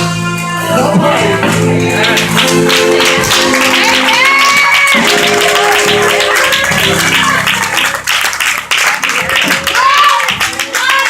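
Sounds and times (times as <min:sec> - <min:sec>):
organ chords: 0:00.0 - 0:09.5
steady drum beat: 0:00.0 - 0:10.6.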